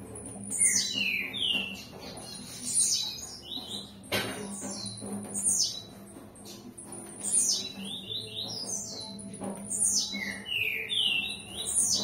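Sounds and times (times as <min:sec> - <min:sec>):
bird singing buzzy phrases: 0:00.0 - 0:12.0.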